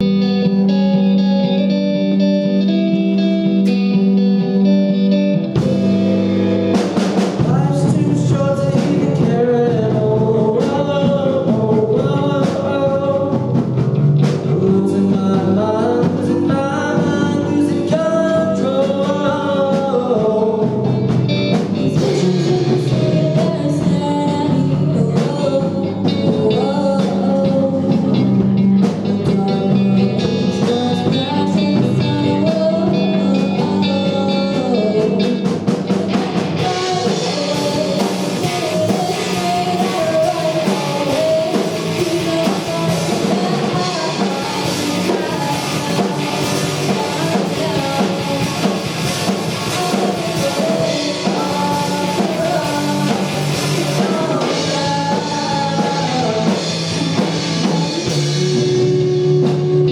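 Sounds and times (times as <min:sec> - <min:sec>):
drum kit: 0:00.0 - 0:59.9
rock band playing live: 0:00.0 - 0:59.9
lead singer singing: 0:05.4 - 0:59.9.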